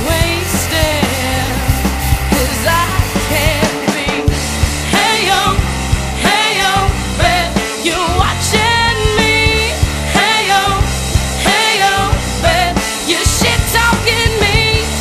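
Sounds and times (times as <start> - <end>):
bass guitar: 0.0 - 15.0
drum kit beating: 0.0 - 15.0
person singing: 0.0 - 15.0.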